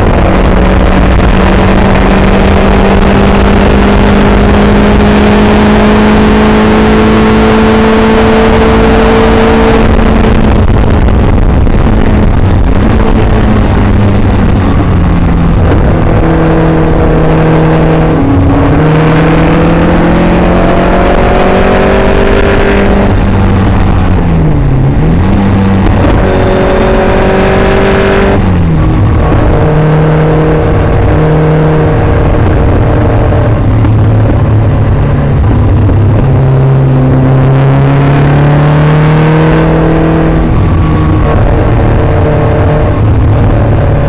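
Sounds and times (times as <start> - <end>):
car engine revving hard: 0.0 - 44.0
wind rushing: 0.0 - 44.0.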